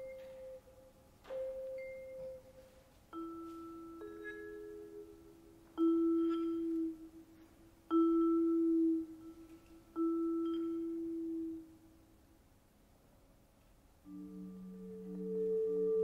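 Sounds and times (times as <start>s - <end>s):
vibraphone chords: 0.0s - 7.2s, 7.9s - 11.8s, 14.1s - 16.0s.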